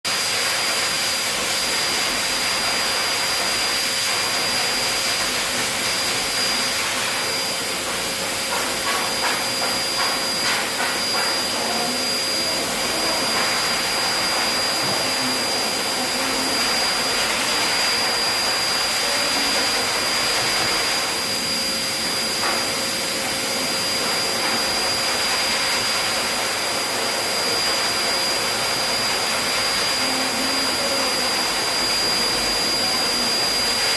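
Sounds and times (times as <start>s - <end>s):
dog dryer air rush and whine: 0.1s - 33.9s.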